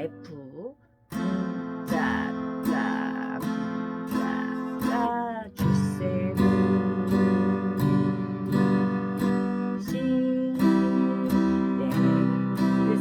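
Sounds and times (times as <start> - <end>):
acoustic guitar strummed waltz: 0.0 - 13.0.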